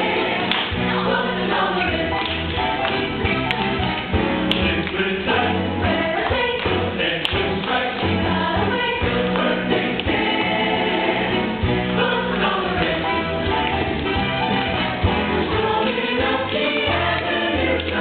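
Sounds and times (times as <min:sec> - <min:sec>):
choir singing in parts: 0:00.0 - 0:02.8, 0:04.5 - 0:18.0
instrumental accompaniment: 0:00.0 - 0:18.0.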